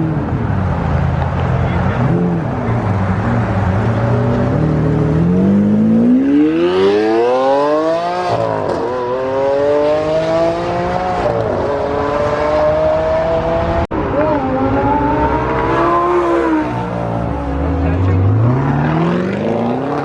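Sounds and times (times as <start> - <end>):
supercar engine revving: 1.8 - 20.0.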